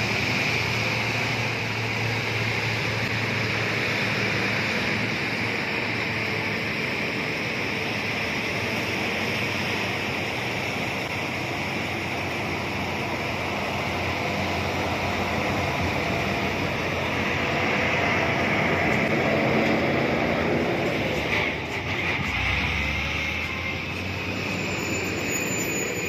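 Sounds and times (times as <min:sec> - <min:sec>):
truck diesel engine labouring: 0:00.0 - 0:26.0.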